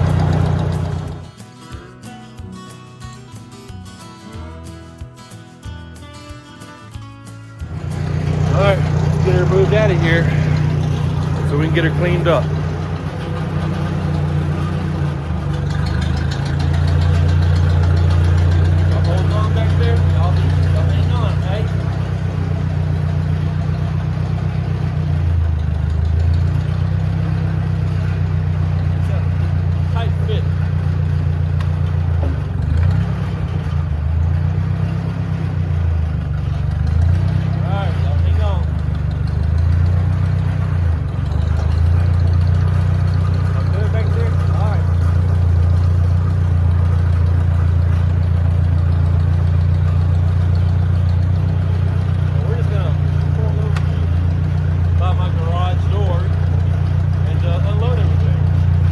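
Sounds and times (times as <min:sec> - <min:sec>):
tractor engine running: 0:00.0 - 0:02.0, 0:06.9 - 0:58.9.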